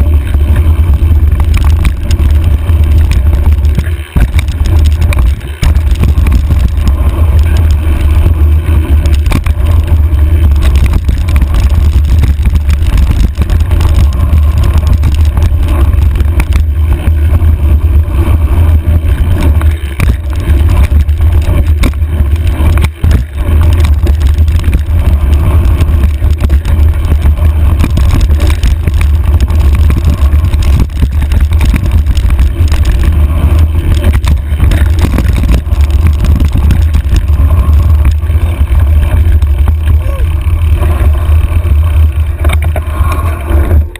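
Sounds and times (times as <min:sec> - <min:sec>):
bike rattle: 0:00.0 - 0:43.9
tyre noise on dirt trail: 0:00.0 - 0:43.9
wind buffeting microphone: 0:00.0 - 0:43.9.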